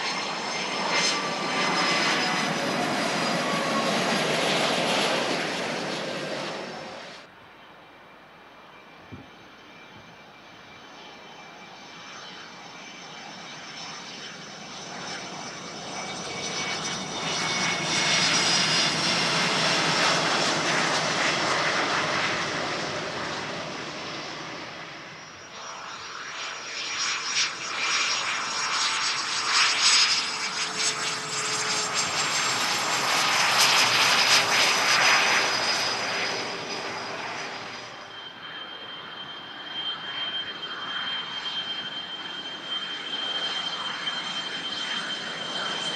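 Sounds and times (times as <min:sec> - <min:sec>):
jet engines with turbine whine: 0:00.0 - 0:45.9.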